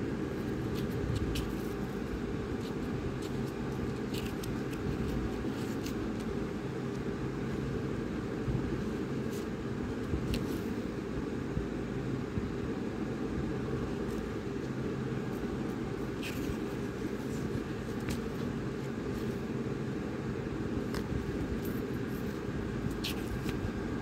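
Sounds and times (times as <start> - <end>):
banknotes rustling: 0.0 - 11.1, 13.5 - 24.0
low background hum: 0.0 - 24.0.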